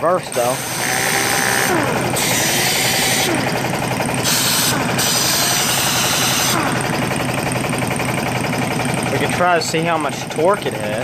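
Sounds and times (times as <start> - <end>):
exhaust air hissing: 0.3 - 9.8
impact wrench hammer rattling: 0.3 - 11.0.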